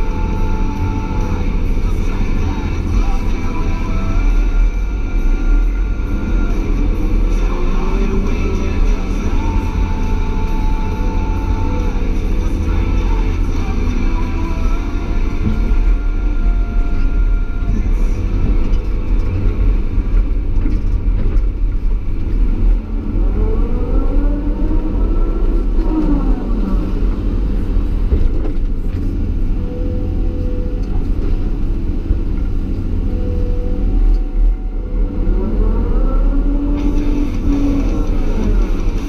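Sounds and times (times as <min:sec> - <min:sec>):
diesel engine drone: 0:00.0 - 0:39.0
hydraulic whine: 0:00.0 - 0:39.0.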